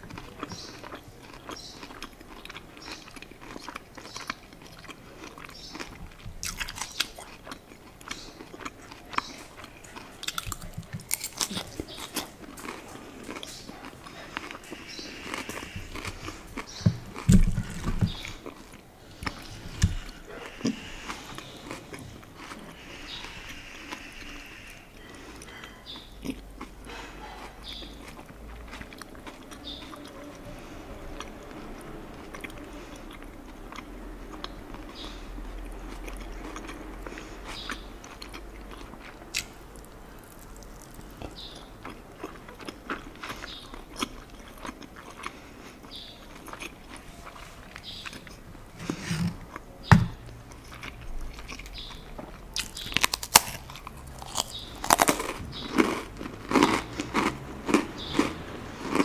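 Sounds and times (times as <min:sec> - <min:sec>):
chewing and mouth sounds: 0:00.0 - 0:48.6, 0:49.4 - 0:59.0.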